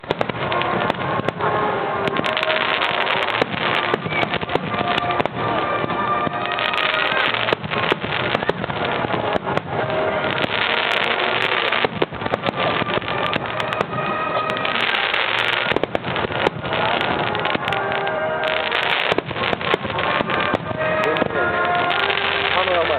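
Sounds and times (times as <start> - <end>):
fireworks bursts and crackling: 0.0 - 22.9
music playing: 0.0 - 22.9.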